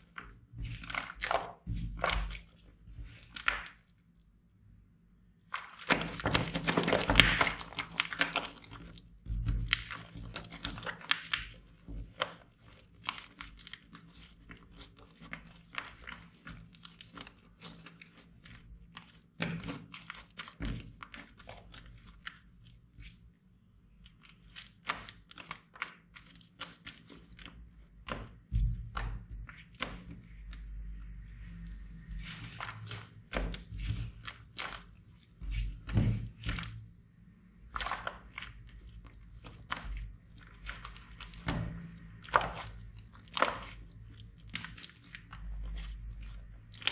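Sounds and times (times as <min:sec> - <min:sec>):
slime crackling and popping: 0:00.0 - 0:04.2, 0:05.4 - 0:46.9.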